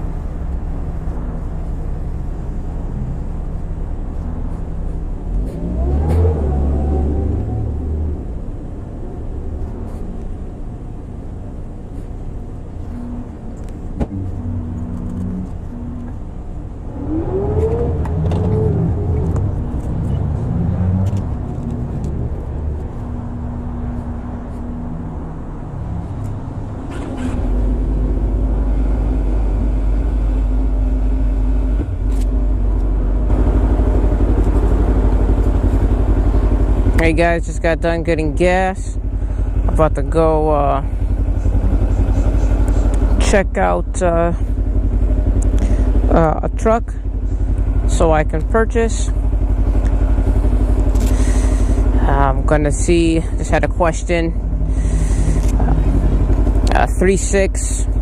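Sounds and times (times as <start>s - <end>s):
low engine hum: 0.0s - 58.0s
vehicle engines passing: 0.0s - 58.0s.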